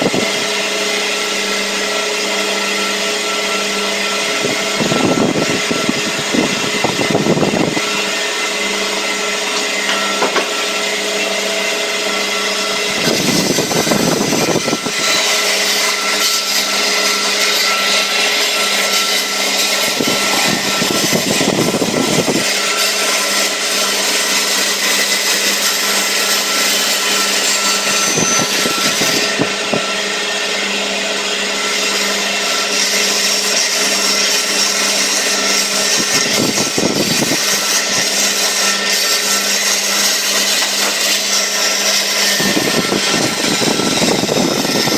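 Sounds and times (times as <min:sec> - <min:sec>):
bandsaw cutting wood: 0:00.0 - 0:44.9.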